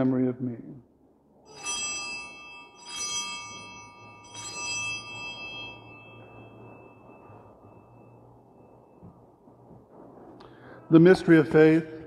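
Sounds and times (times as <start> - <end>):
altar bells ringing: 1.4 - 12.0.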